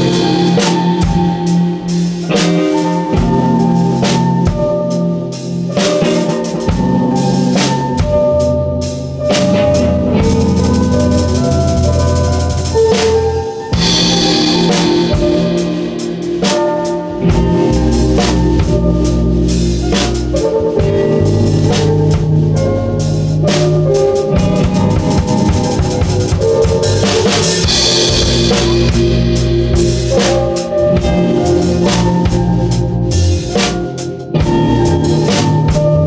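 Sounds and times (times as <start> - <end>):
band playing instrumental jam: 0.0 - 36.0
drum kit beat: 0.0 - 36.0.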